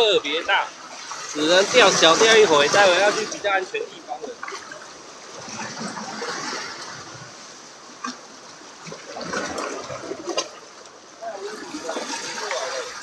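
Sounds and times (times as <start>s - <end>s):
sea waves splashing on shore: 0.0s - 13.0s.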